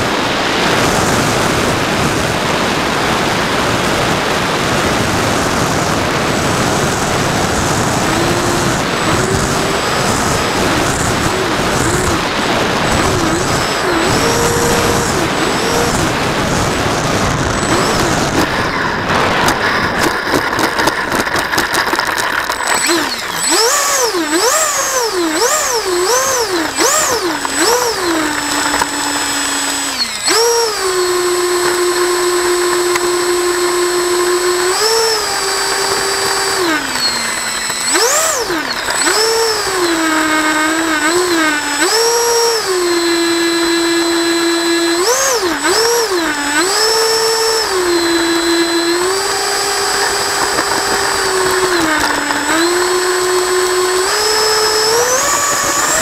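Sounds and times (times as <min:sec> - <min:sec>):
model plane electric motor whining: 0:00.0 - 0:56.0.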